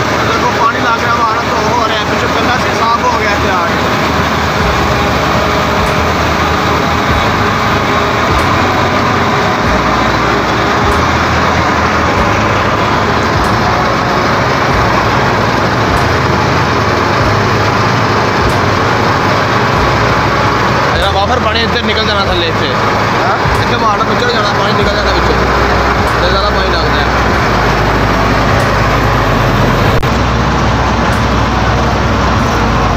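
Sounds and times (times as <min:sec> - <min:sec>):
machine droning: 0:00.0 - 0:32.9.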